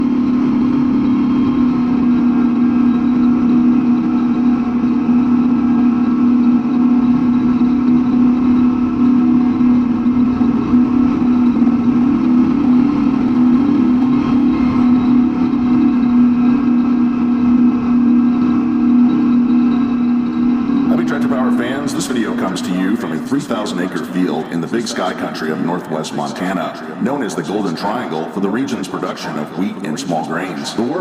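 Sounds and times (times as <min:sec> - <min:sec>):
diesel engine deep drone: 0:00.0 - 0:31.0.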